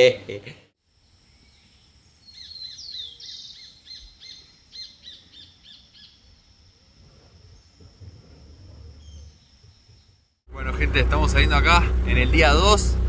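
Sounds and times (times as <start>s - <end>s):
bird singing: 0.9s - 10.4s, 11.2s - 13.0s.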